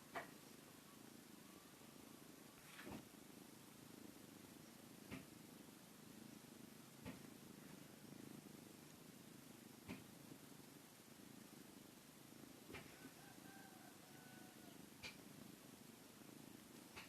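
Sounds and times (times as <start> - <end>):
cat purring faintly: 0.0 - 17.0.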